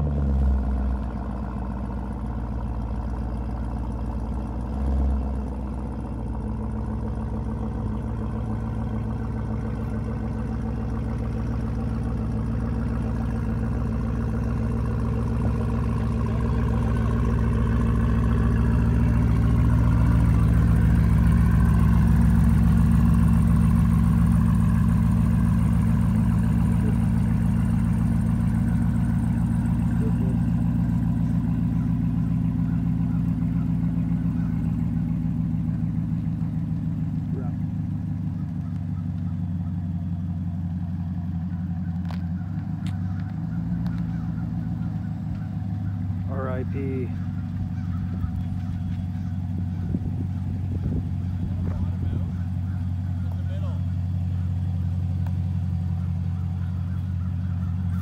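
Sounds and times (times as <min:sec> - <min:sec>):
car engine creeping past: 0:00.0 - 0:58.0.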